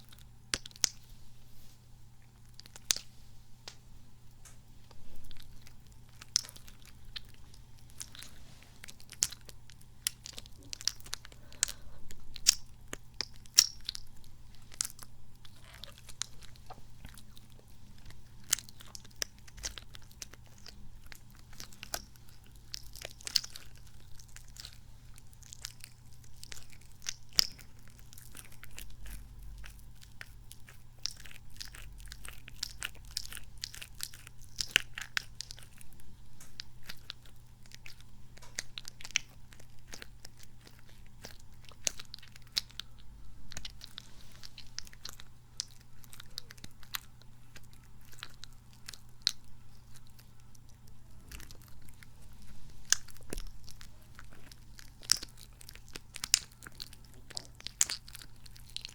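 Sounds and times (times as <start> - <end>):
squishy toy squelching: 5.0 - 58.9.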